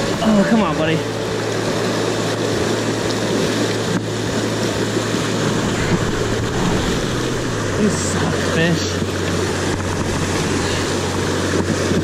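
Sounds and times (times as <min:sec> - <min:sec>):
rushing whitewater creek: 0:00.0 - 0:12.0.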